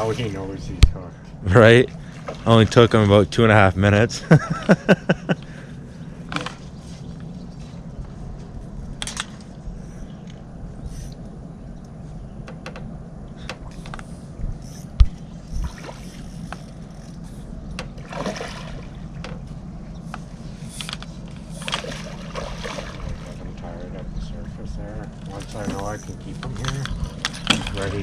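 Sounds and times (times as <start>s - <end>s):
steady low rumble: 0.0s - 28.0s
water sloshing against dock: 0.0s - 28.0s.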